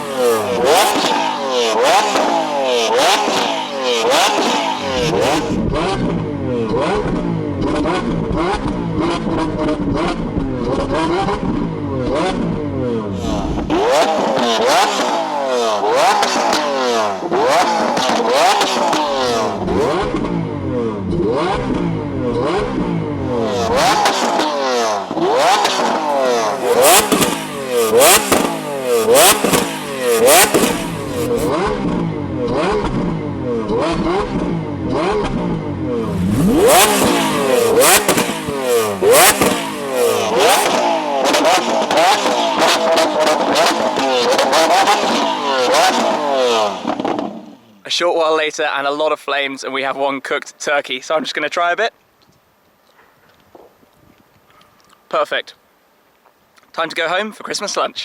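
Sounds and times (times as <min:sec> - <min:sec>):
car engine revving: 0:00.0 - 0:47.9
exhaust pops and crackles: 0:00.1 - 0:48.0.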